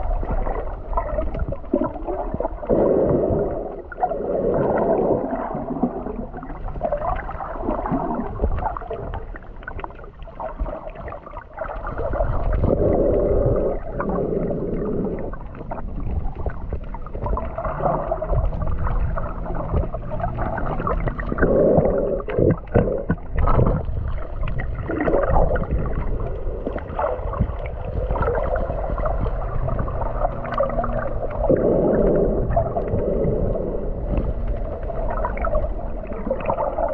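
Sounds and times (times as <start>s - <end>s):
low rumble: 0.0s - 36.9s
muffled water sloshing underwater: 0.0s - 36.9s.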